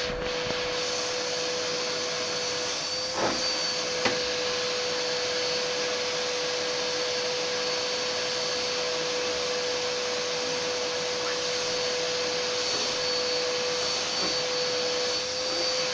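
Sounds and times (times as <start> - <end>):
vacuum cleaner running: 0.0 - 15.9.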